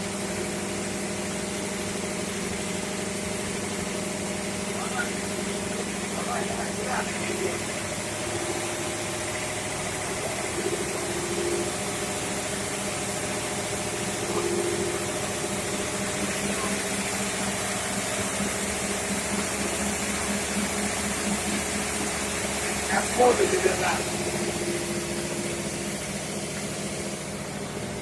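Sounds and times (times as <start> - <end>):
fire pump engine droning: 0.0 - 28.0.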